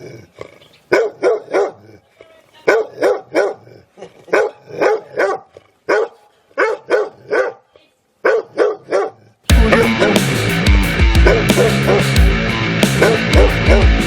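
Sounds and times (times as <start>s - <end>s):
dog barking angrily: 0.6s - 10.4s, 11.2s - 12.2s, 12.9s - 14.0s.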